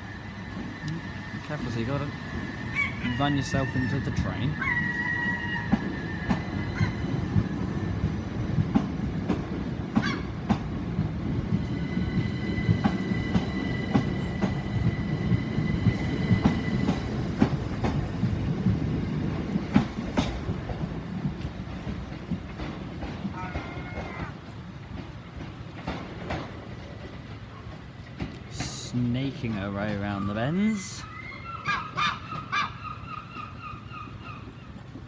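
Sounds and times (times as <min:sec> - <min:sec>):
wheels clicking over track: 0:00.0 - 0:31.0
electric train rumbling: 0:00.0 - 0:35.0.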